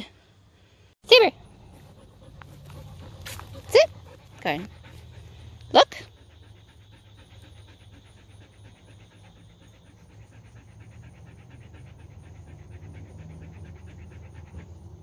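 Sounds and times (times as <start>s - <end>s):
dog panting: 1.4s - 15.0s.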